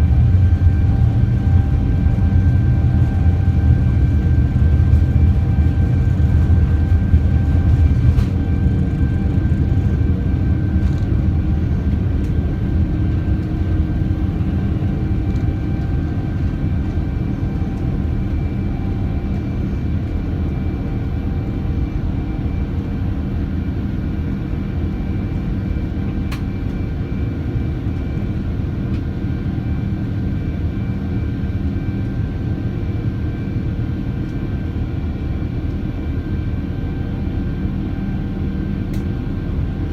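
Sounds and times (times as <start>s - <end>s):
jet engines rumbling and whining: 0.0s - 39.9s.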